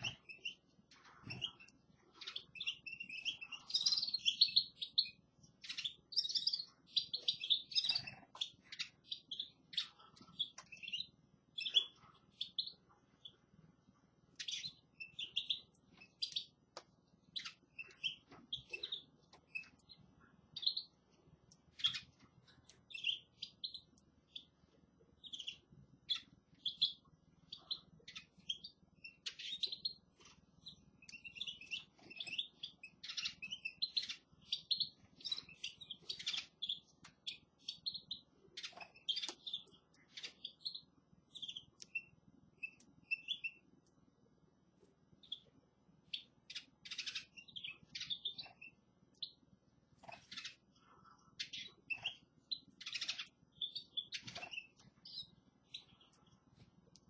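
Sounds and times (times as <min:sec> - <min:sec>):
finches chirping and twittering: 0:00.0 - 0:13.5, 0:14.3 - 0:43.8, 0:45.2 - 0:56.7
faint low hum: 0:00.0 - 0:57.0.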